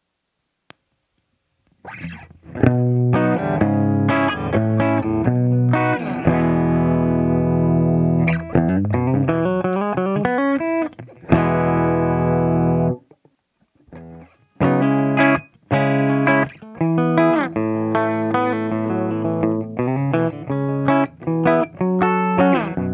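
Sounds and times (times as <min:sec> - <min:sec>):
electric guitar playing: 0:01.8 - 0:13.1, 0:13.9 - 0:22.9.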